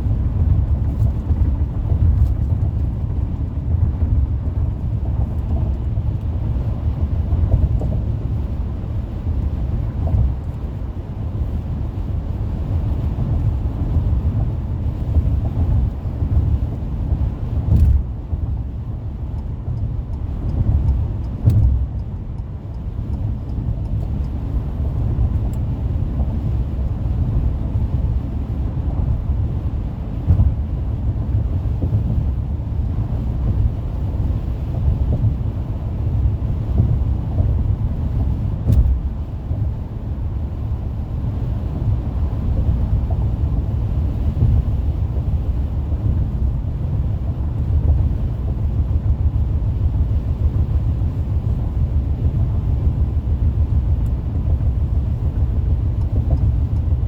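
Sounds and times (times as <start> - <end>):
car tyre road noise: 0.0 - 57.0.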